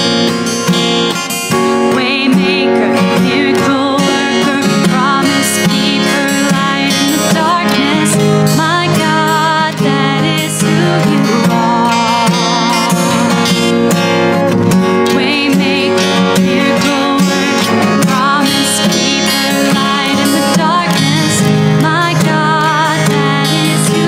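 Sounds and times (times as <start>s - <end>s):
strummed acoustic guitar: 0.0s - 24.0s
person singing with vibrato: 1.5s - 13.8s, 14.8s - 24.0s.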